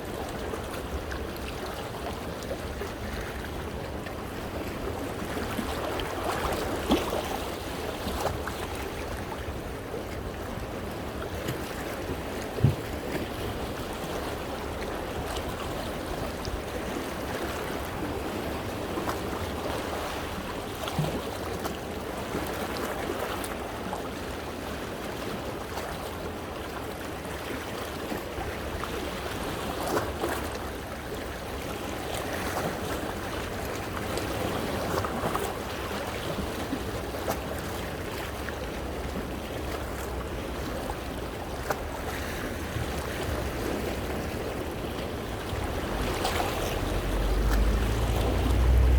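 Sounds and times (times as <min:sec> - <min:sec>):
waves washing over rocks: 0:00.0 - 0:48.9.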